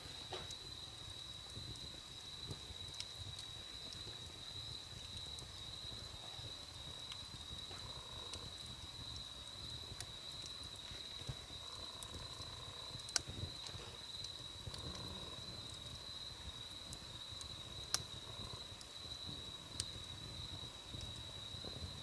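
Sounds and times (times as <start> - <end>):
campfire pops: 0.0 - 22.0
low rumble of burning: 0.0 - 22.0.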